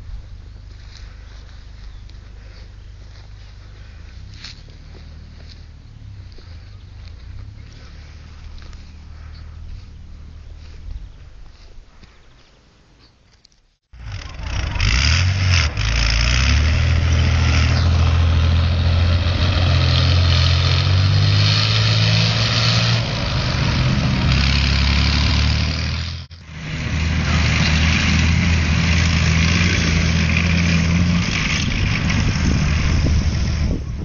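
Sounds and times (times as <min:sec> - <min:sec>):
diesel engine running: 0:00.0 - 0:11.6, 0:13.9 - 0:34.0.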